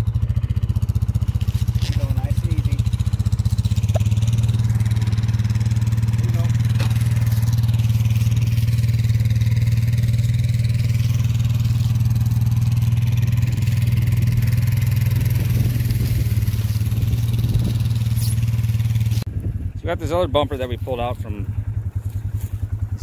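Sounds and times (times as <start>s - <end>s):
atv engine idling: 0.0s - 23.0s.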